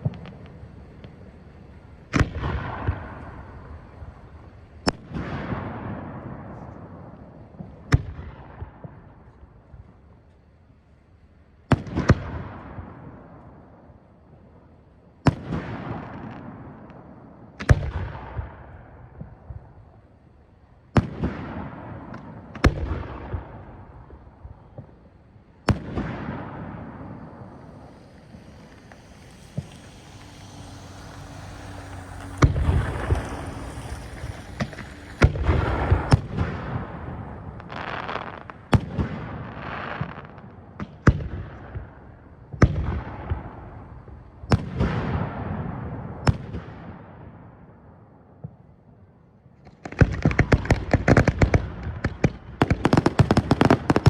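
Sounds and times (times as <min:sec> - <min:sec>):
fireworks bangs with rumbling echo: 0:00.0 - 0:10.3, 0:11.6 - 0:54.0.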